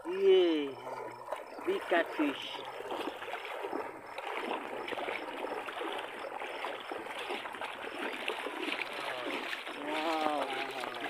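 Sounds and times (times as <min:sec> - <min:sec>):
wading through water splashing: 0:00.0 - 0:11.0.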